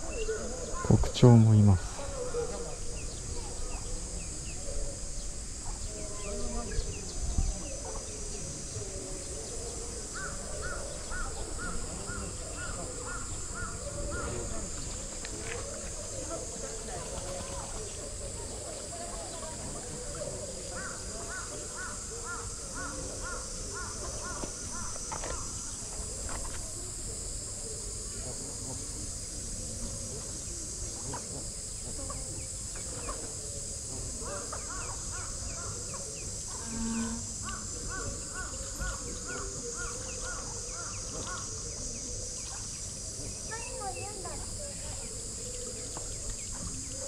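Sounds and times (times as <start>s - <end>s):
high insect drone: 0.0s - 47.0s.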